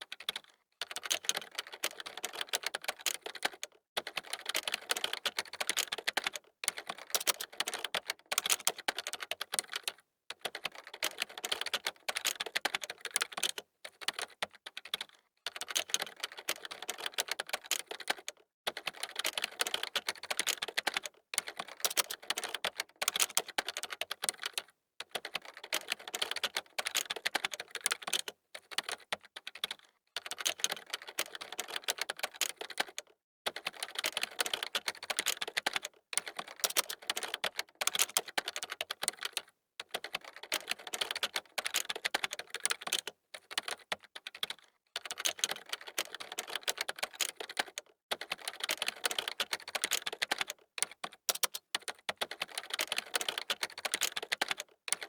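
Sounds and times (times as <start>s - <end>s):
fast typing on keyboard: 0.0s - 55.0s.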